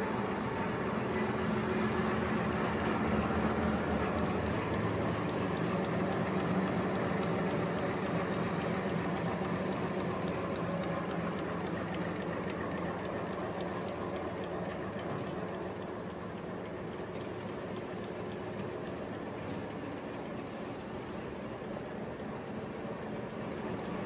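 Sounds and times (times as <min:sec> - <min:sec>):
machinery humming and whirring: 0:00.0 - 0:24.0.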